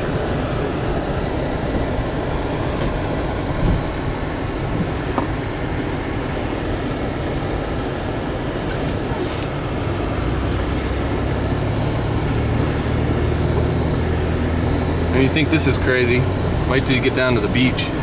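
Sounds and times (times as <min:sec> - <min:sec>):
vehicle rumble from inside cabin: 0:00.0 - 0:18.0.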